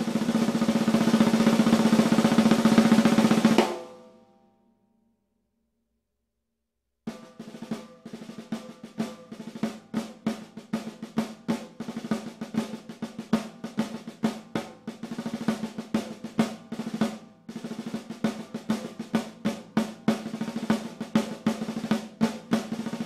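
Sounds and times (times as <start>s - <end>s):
snare drum rolls: 0.0s - 4.0s, 7.1s - 23.0s.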